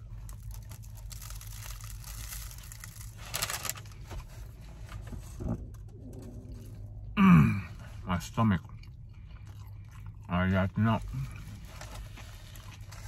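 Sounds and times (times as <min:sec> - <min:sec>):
person chewing crunchy food: 0:00.0 - 0:05.0, 0:05.7 - 0:13.0.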